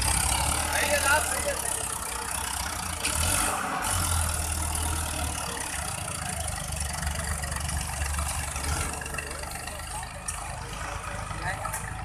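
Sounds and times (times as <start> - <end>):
second tractor engine running: 0.0 - 12.0
tractor diesel engine working: 0.0 - 12.0.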